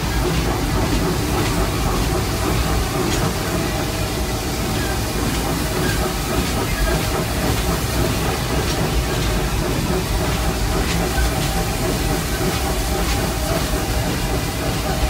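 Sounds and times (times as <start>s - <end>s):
steam hissing: 0.0s - 15.0s
steam locomotive rumble: 0.0s - 15.0s.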